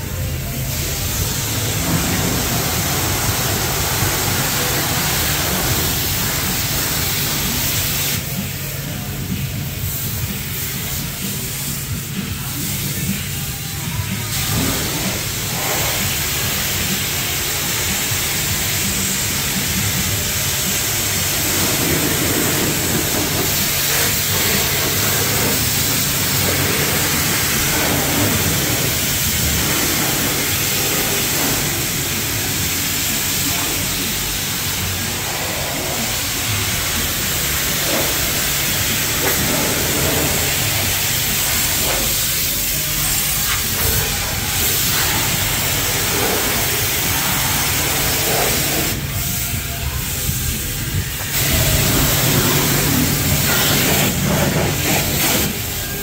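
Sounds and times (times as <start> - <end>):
high-pressure water spray: 0.0 - 56.0.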